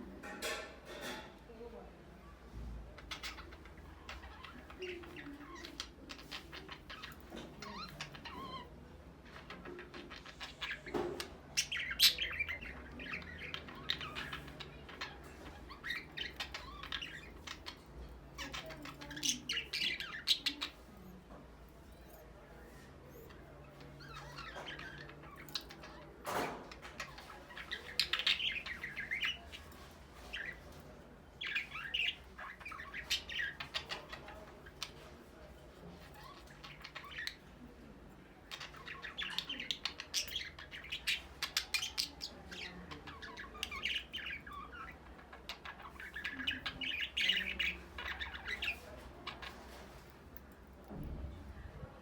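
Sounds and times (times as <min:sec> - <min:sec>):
budgerigars chirping: 0:03.0 - 0:21.0, 0:22.8 - 0:37.6, 0:38.4 - 0:50.2.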